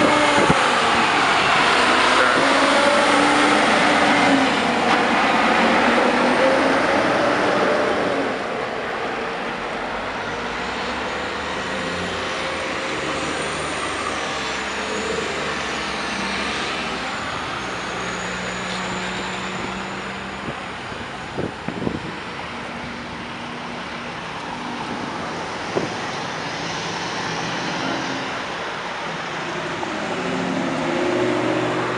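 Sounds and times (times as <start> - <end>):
city street traffic: 0.0 - 31.9
truck passing close by: 0.0 - 31.9.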